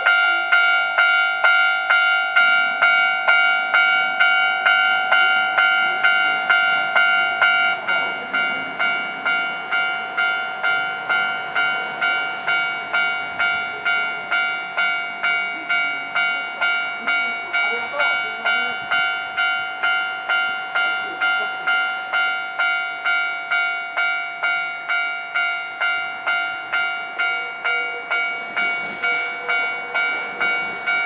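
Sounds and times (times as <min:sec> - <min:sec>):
level crossing bell ringing: 0:00.0 - 0:31.0.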